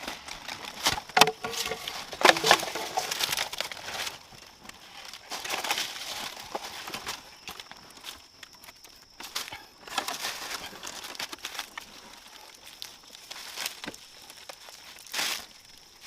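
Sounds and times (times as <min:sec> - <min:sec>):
dry plant material rustling: 0:00.0 - 0:16.0.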